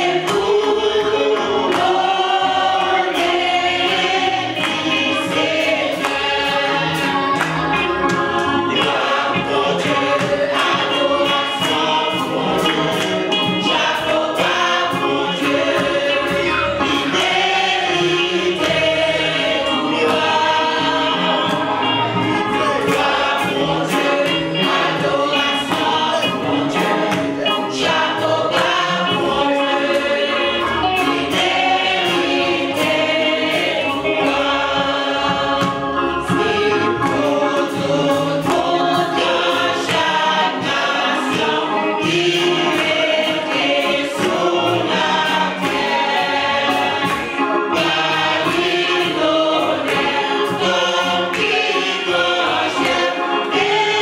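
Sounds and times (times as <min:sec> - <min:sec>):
group singing a hymn in harmony: 0:00.0 - 0:54.0
percussive beat: 0:00.0 - 0:54.0.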